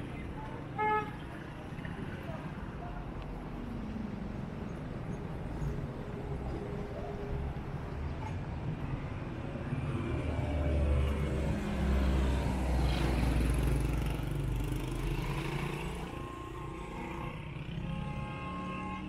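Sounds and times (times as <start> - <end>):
vehicle engine rumble passing by: 1.3 - 17.9.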